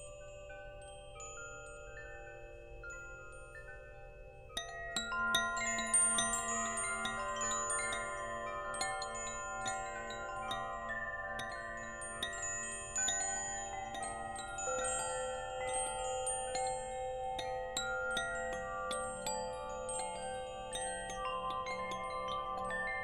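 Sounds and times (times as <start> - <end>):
wind chimes tinkling: 0.0 - 23.0.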